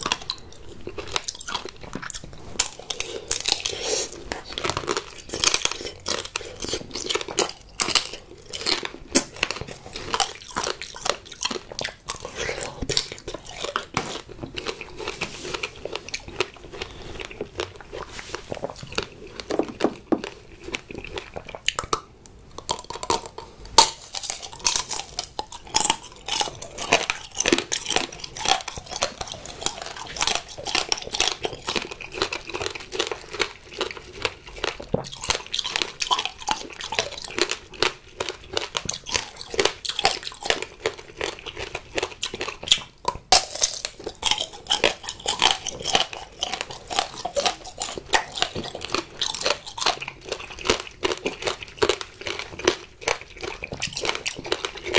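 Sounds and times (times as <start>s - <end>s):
crunching hard candy coating: 0.0s - 54.9s.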